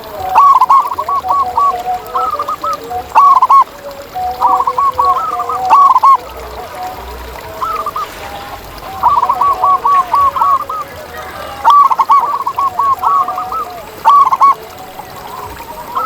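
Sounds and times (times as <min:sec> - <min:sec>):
dove cooing: 0:00.0 - 0:16.0
fainter lower bird calls: 0:00.0 - 0:16.0.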